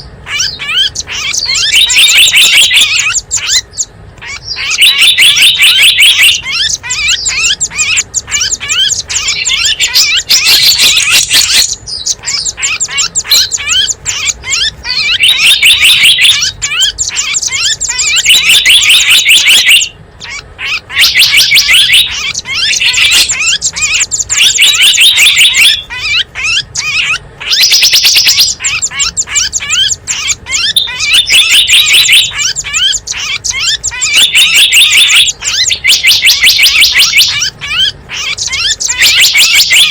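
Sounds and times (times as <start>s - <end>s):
recorded small birds chirping: 0.0s - 39.9s.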